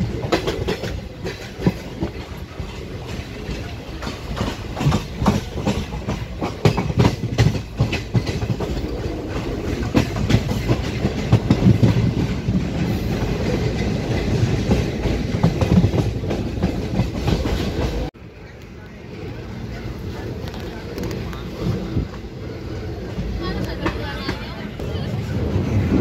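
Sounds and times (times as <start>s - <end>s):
train rumble: 0.0s - 26.0s
wheels clickety-clack over rail joints: 0.0s - 26.0s.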